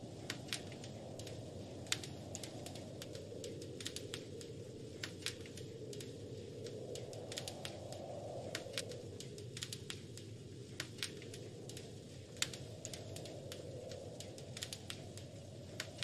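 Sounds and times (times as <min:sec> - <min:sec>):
low rush of wind: 0:00.0 - 0:16.0
wood fire crackling: 0:00.0 - 0:16.0.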